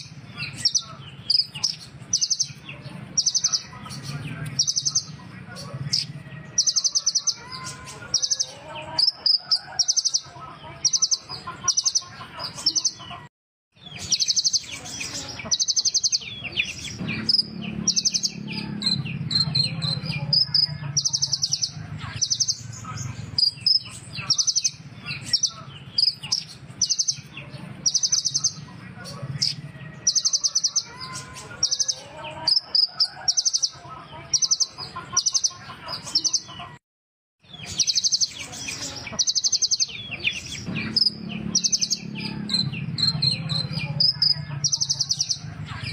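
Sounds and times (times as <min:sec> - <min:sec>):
bird chirping and twittering: 0:00.0 - 0:36.8, 0:37.4 - 0:45.9.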